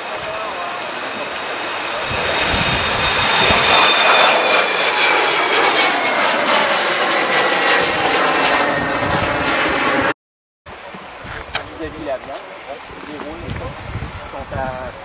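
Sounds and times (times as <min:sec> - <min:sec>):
jet taking off: 0:00.0 - 0:15.0.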